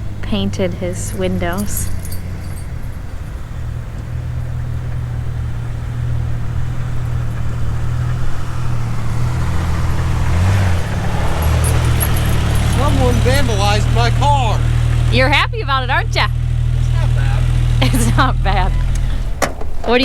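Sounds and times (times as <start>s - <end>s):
car engine approaching: 0.0s - 20.0s.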